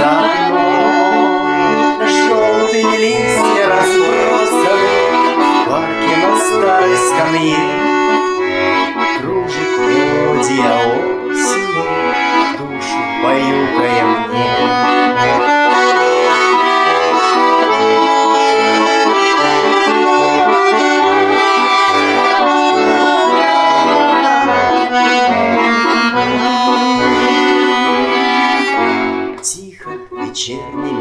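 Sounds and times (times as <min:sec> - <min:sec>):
button accordion waltz: 0:00.0 - 0:31.0.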